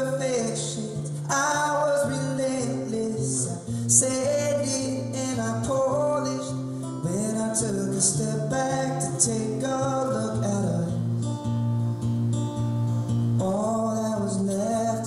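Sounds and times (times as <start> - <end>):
man singing: 0.0 - 11.2, 13.4 - 15.0
strummed acoustic guitar: 0.0 - 15.0.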